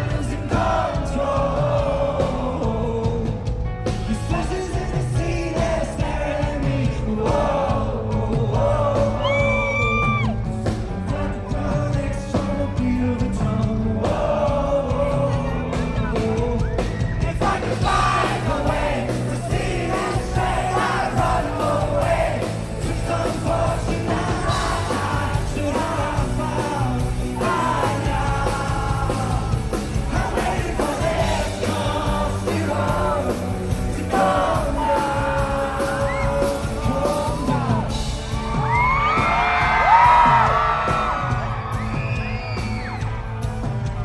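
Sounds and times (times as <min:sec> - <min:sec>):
man singing with rock band: 0:00.0 - 0:41.1
audience yelling and cheering: 0:04.9 - 0:12.8, 0:13.8 - 0:44.0.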